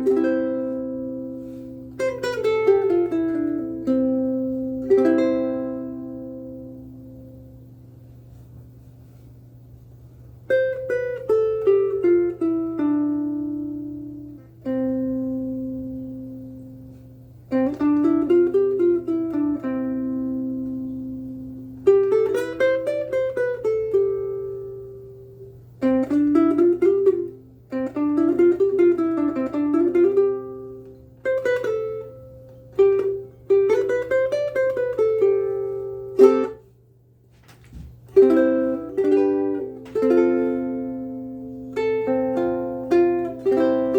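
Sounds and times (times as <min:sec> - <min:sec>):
ukulele playing: 0:00.0 - 0:07.7, 0:10.4 - 0:43.9
faint low hum: 0:00.0 - 0:43.9.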